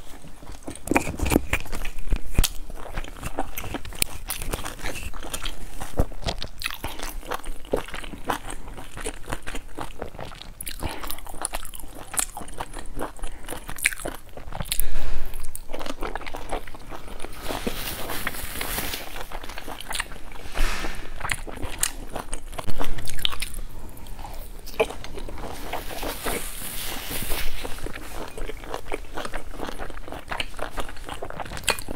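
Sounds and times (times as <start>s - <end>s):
wet chewing and biting: 0.0s - 20.4s, 21.1s - 26.6s, 27.3s - 31.9s.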